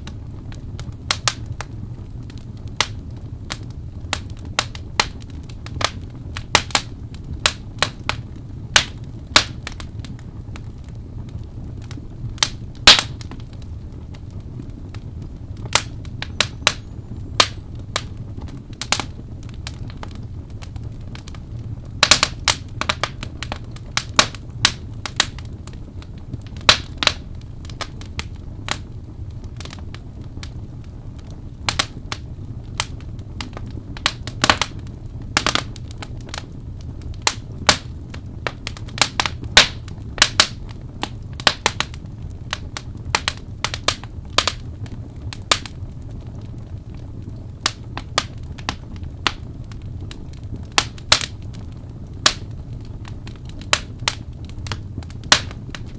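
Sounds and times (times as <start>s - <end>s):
fire crackling and popping: 0.0s - 55.9s
low rumble of flames: 0.0s - 55.9s.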